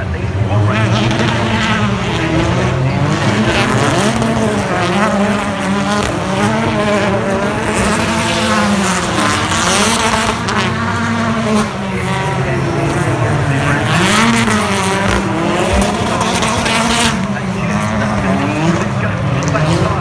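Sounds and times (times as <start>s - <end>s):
racing cars passing at full throttle: 0.0s - 20.0s.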